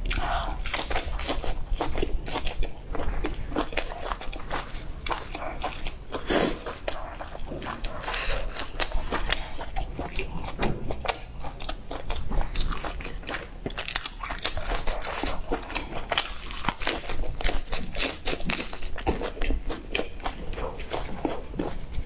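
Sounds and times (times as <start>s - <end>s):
crunchy chewing and biting: 0.0s - 22.0s.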